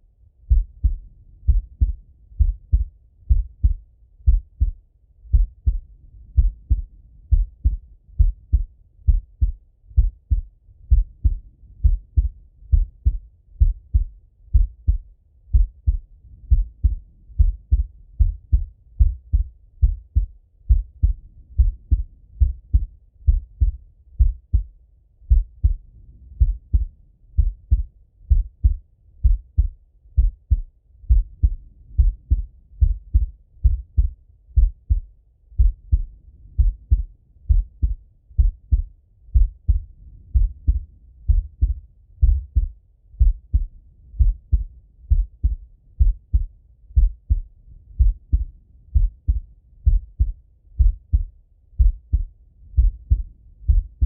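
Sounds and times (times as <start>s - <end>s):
heartbeat through stethoscope: 0.4s - 25.8s, 26.4s - 54.0s.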